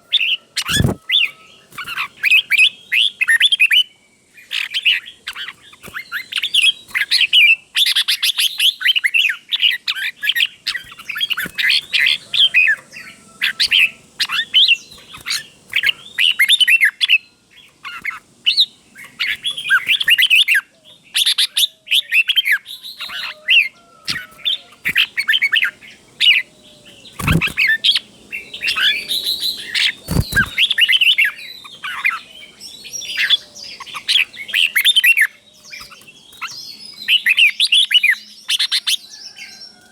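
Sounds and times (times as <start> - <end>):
bulbul singing: 0.0 - 39.8.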